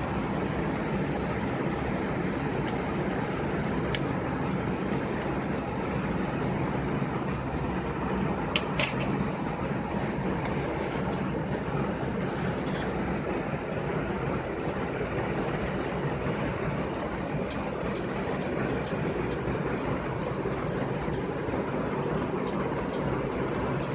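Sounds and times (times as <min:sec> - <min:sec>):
hard drive whirring: 0:00.0 - 0:23.9.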